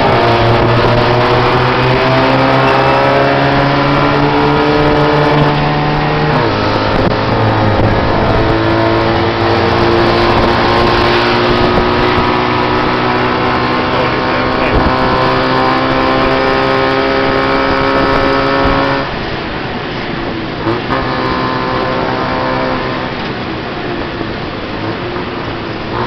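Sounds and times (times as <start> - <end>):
small engine running loud: 0.0 - 26.0.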